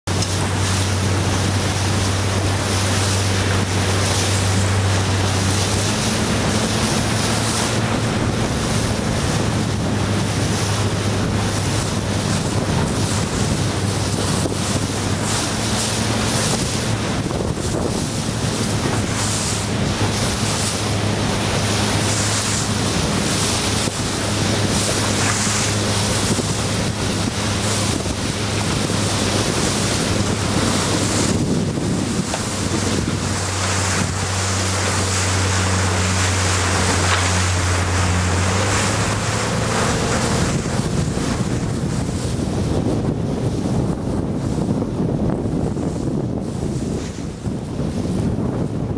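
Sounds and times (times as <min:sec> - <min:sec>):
outboard motor humming: 0:00.0 - 0:48.9
rushing splashing water: 0:00.0 - 0:48.9
wind buffeting microphone: 0:00.1 - 0:48.9.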